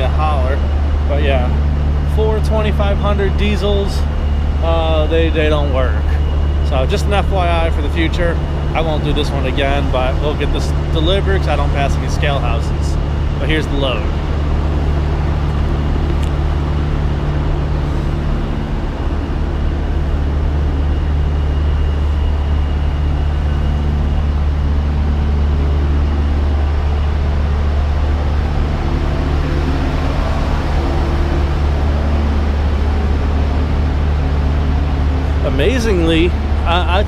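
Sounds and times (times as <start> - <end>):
diesel truck engine idling: 0.0 - 37.0
faint high whine: 0.0 - 37.0.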